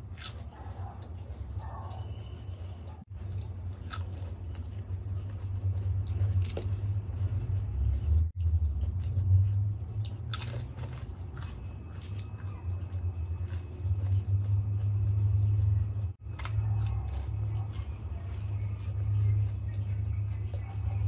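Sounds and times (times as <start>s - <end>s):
steady low hum: 0.0s - 21.0s
wet chewing: 0.0s - 21.0s.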